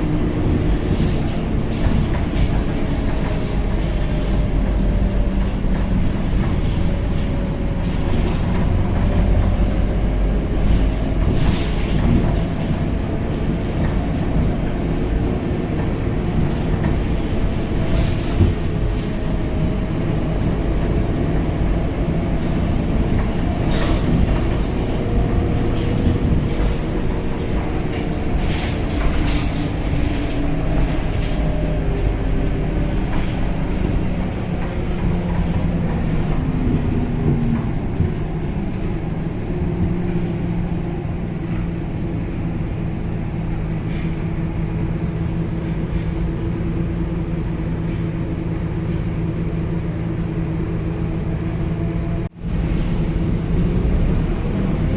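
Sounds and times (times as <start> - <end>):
bus body rattles and knocks: 0.0 - 54.9
bus engine and road rumble: 0.0 - 54.9.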